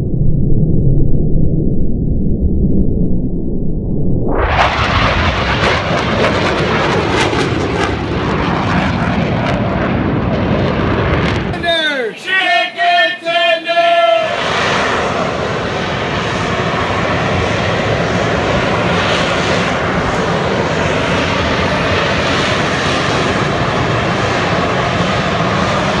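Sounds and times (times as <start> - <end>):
jet aircraft engines: 0.0 - 26.0.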